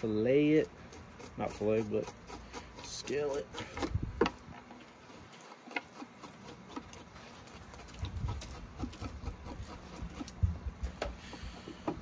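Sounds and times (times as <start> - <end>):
knife scraping fish scales: 0.0 - 10.4.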